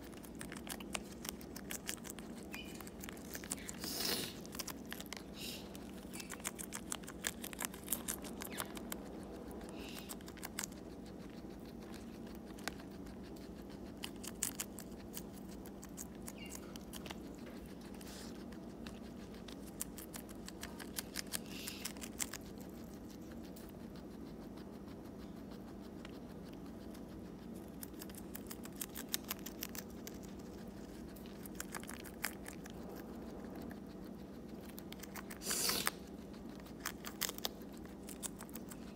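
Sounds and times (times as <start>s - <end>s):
guinea pig chewing lettuce: 0.0s - 38.9s
low steady hum: 0.0s - 38.9s.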